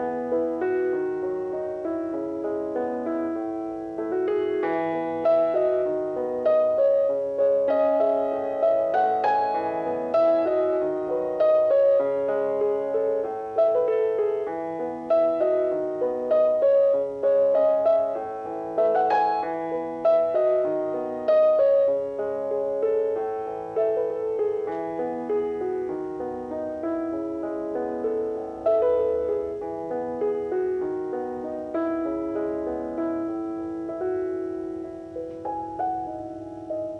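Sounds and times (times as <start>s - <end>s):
slow solo piano piece: 0.0s - 36.9s.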